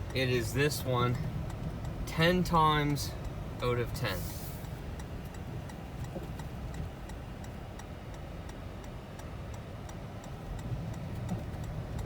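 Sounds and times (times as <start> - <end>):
engine and tyres rumbling: 0.0 - 12.0
steady ticking: 0.0 - 12.0.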